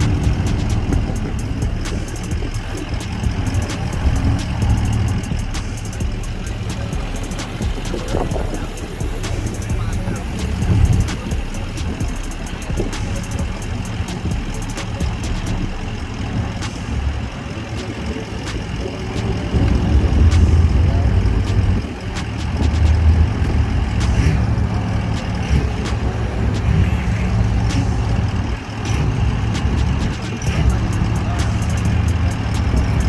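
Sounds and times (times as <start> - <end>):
car engines rumbling past: 0.0 - 33.0.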